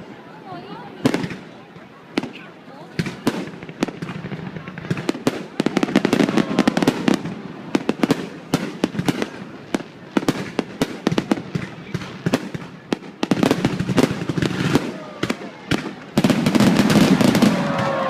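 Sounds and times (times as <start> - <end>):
fireworks cracking and popping: 0.9 - 18.0.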